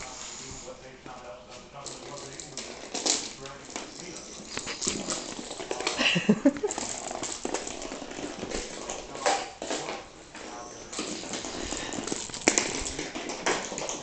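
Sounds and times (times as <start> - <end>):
jingle ball rattling on hardwood floor: 1.8 - 10.1, 10.9 - 14.0.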